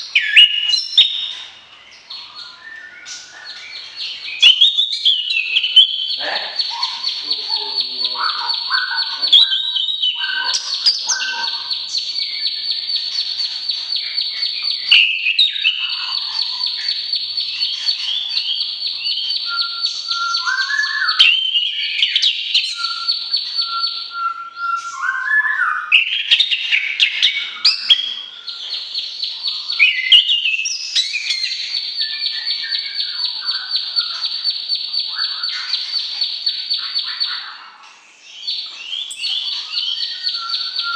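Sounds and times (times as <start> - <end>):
songbird trills and whistles: 0.0 - 40.9.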